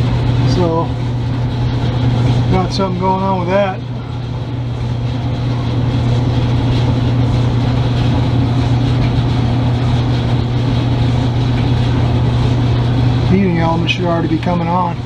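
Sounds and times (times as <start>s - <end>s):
clothes dryer motor humming: 0.0s - 15.0s.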